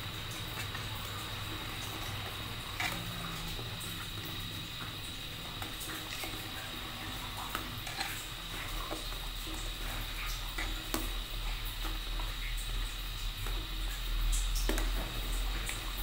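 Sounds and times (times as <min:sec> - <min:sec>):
ladle stirring drink in pot: 0:00.0 - 0:16.0.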